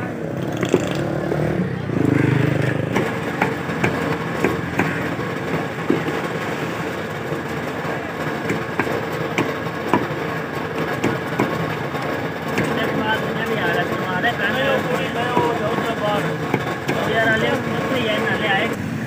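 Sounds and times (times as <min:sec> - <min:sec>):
steady engine hum: 0:00.0 - 0:19.0.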